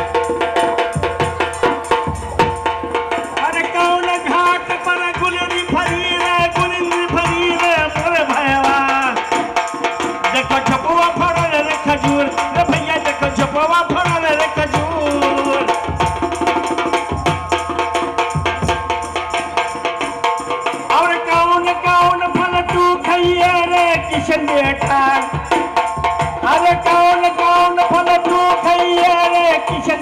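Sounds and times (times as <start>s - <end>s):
fast hand-drum beats: 0.0s - 30.0s
jingling rattle percussion: 0.0s - 30.0s.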